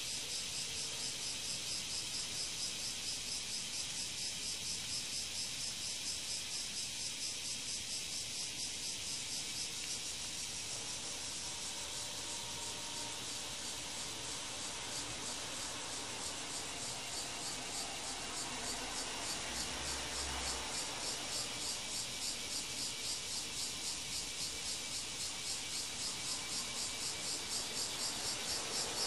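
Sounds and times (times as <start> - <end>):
insect chorus buzzing: 0.0 - 29.0.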